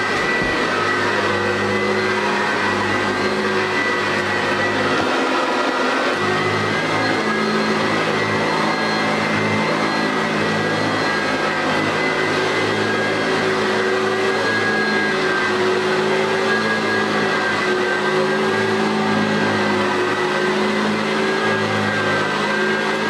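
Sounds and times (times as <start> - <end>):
vacuum cleaner running on carpet: 0.0 - 23.0.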